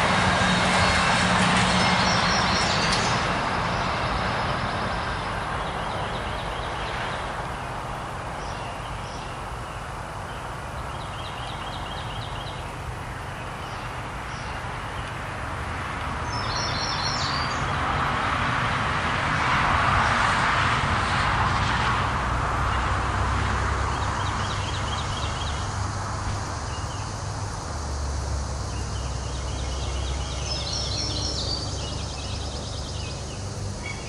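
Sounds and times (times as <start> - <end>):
distant traffic: 0.0 - 34.0.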